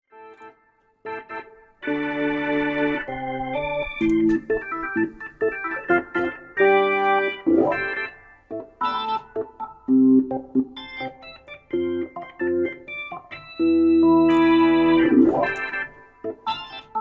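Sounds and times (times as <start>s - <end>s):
organ chords and stabbed notes: 0.1s - 17.0s.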